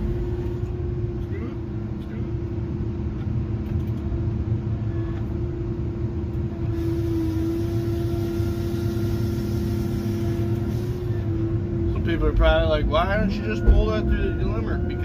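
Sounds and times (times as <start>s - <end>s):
constant whine: 0.0s - 15.0s
engine and hydraulic drone: 0.0s - 15.0s.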